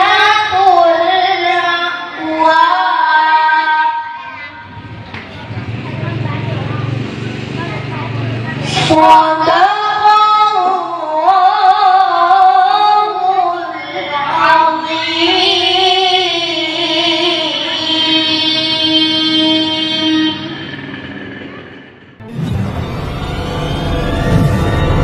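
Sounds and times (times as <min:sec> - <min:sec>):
boy reciting melodically: 0:00.0 - 0:20.7.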